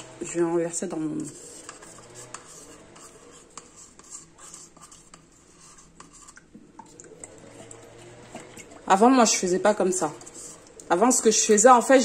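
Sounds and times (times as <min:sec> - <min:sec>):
plastic spoon scraping gel: 0:00.0 - 0:06.6, 0:07.2 - 0:12.0.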